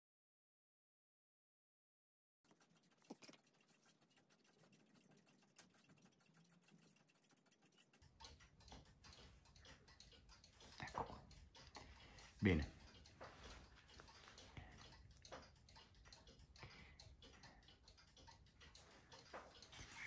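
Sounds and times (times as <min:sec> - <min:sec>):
faint rapid clicking: 0:02.5 - 0:20.0.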